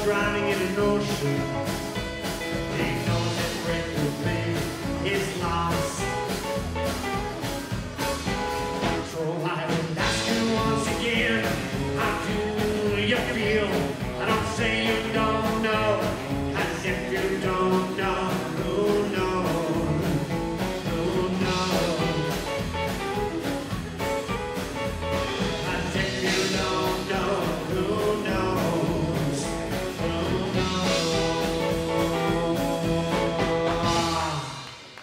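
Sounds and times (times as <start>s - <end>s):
person singing: 0.0s - 8.1s, 8.8s - 34.8s
drum kit beat: 0.0s - 35.0s.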